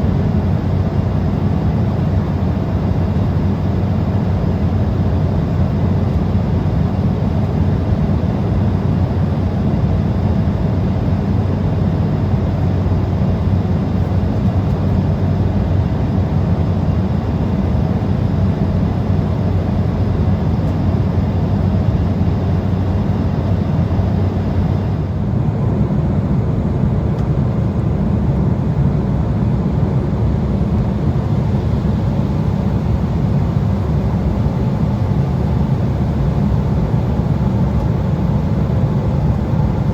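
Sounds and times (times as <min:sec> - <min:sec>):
jet cabin airflow and engines: 0:00.0 - 0:39.9.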